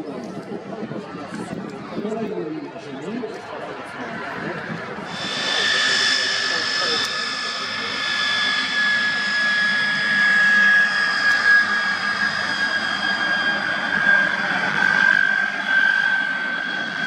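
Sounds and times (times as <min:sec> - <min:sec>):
jet engine whine: 0:00.0 - 0:17.0.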